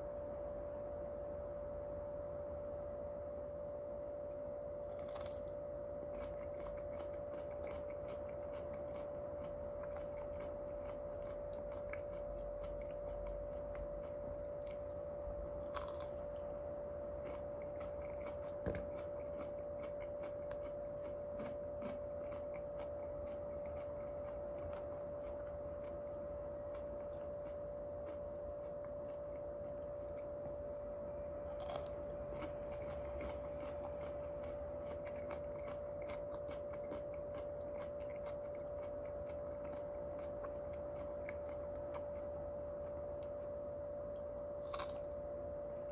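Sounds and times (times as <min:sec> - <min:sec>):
steady humming tone: 0:00.0 - 0:45.9
chewing crunches: 0:04.8 - 0:45.2.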